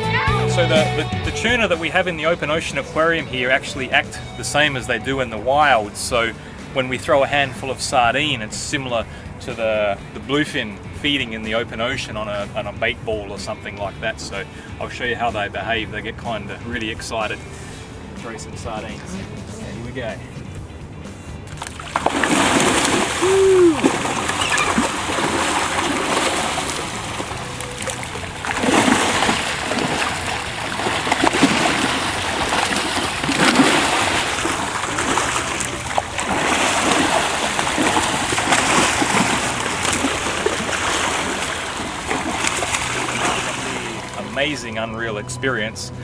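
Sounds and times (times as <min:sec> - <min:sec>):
water splashing: 0:01.4 - 0:44.8.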